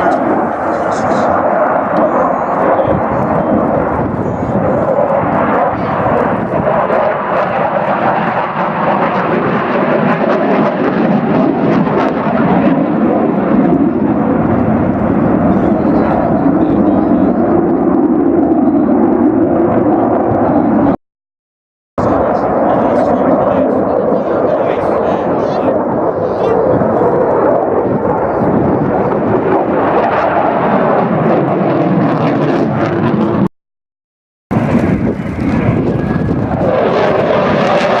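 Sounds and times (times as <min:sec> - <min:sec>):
aircraft flying past: 0:00.0 - 0:21.0, 0:22.0 - 0:33.5, 0:34.5 - 0:38.0
jet engines roaring: 0:00.0 - 0:21.0, 0:22.0 - 0:33.5, 0:34.5 - 0:38.0.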